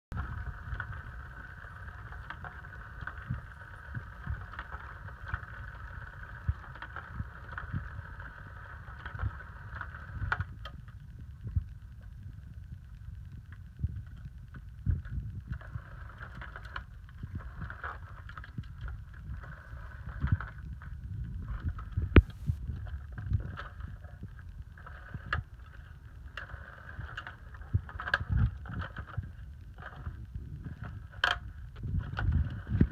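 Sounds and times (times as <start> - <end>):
low rumble: 0.1 - 32.9
spinning toy whirring: 0.2 - 32.9.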